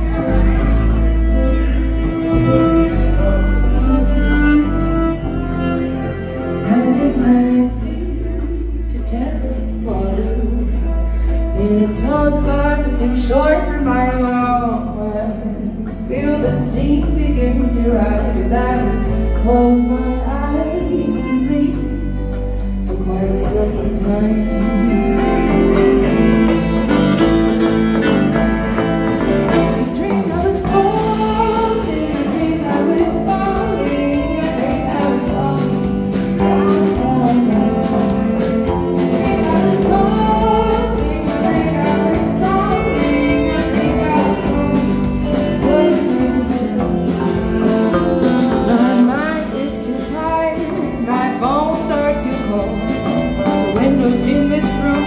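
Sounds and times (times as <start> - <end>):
live band playing country music: 0.0 - 55.0.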